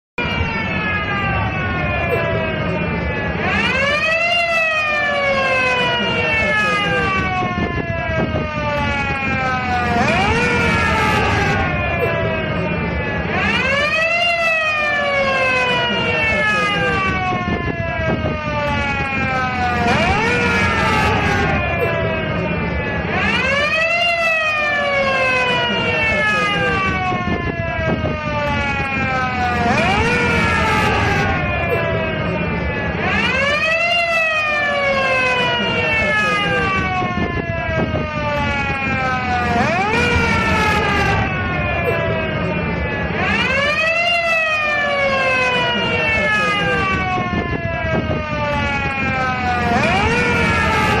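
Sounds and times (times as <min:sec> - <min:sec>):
ambulance siren wailing: 0:00.2 - 0:51.0.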